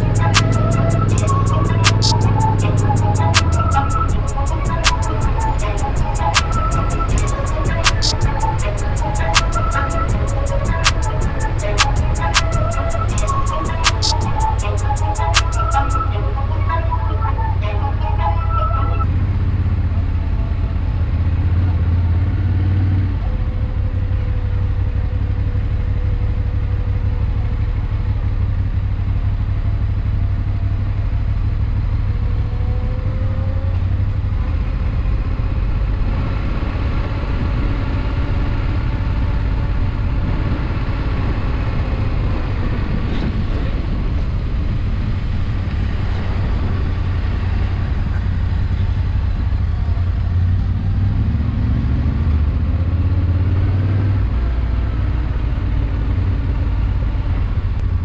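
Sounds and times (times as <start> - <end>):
motorcycle engine rumble: 0.0 - 58.0.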